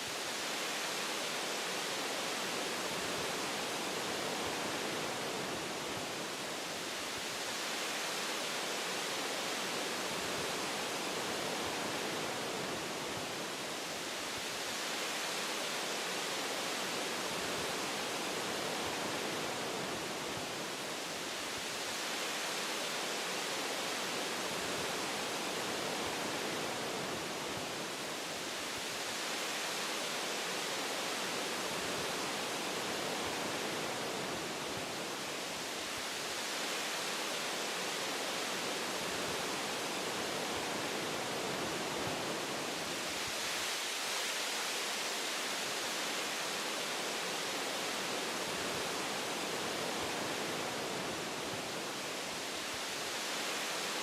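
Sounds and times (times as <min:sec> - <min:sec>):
wind rushing through trees: 0:00.0 - 0:54.0.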